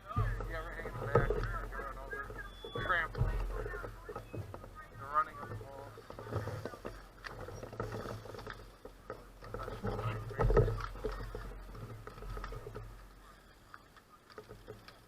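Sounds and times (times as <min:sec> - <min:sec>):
bike tyres crunching on gravel: 0:00.0 - 0:15.0
small irregular clicks: 0:00.0 - 0:15.0.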